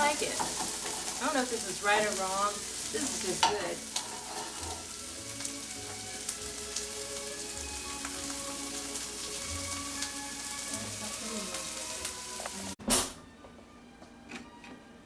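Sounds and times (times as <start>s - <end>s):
chicken sizzling in a pan: 0.0s - 12.8s.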